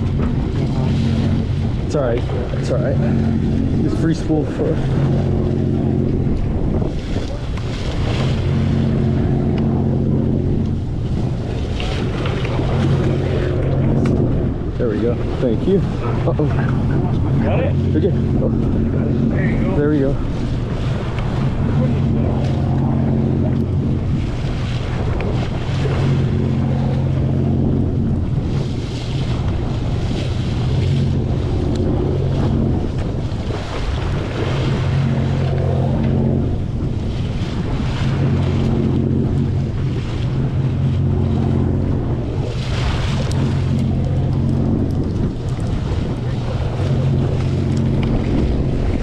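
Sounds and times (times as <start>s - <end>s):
boat engine humming: 0.0s - 49.0s
rushing sea water: 0.0s - 49.0s
wind buffeting microphone: 0.0s - 49.0s.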